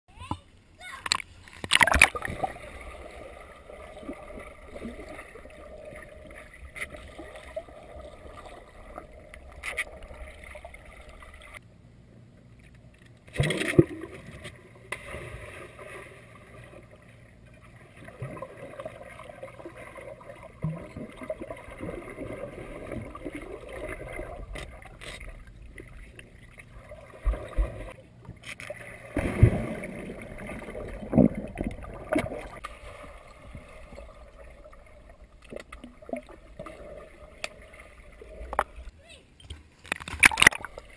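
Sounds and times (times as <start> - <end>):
splashing and bubbling: 1.1 - 11.6, 13.3 - 38.9, 39.8 - 40.9.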